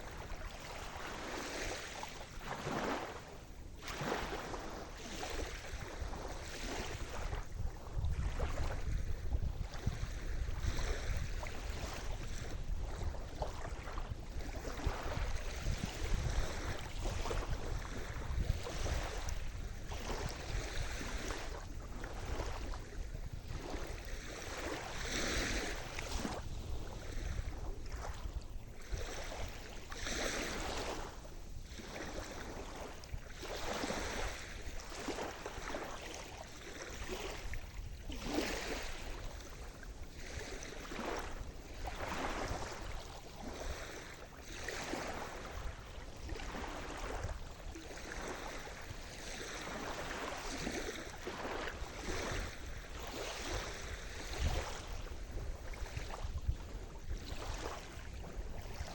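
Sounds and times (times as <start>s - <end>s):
small waves breaking: 0.0s - 58.9s.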